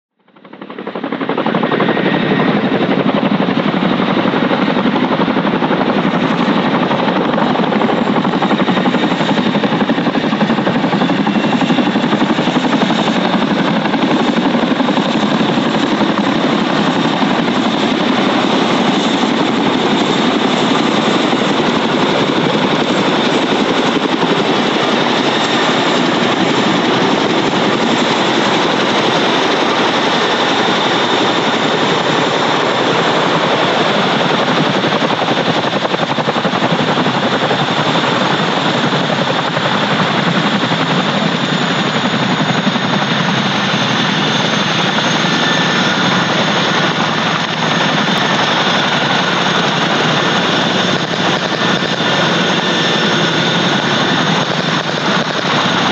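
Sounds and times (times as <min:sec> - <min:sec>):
helicopter rotors chopping: 0:00.4 - 0:55.9
high turbine whine: 0:00.6 - 0:55.9.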